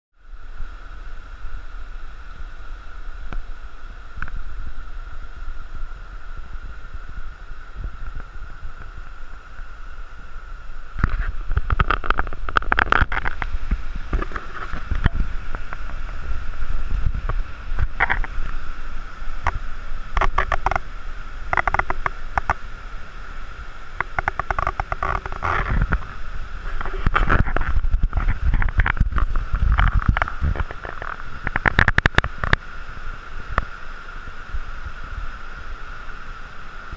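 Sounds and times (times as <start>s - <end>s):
rumbling gusts: 0.3s - 36.9s.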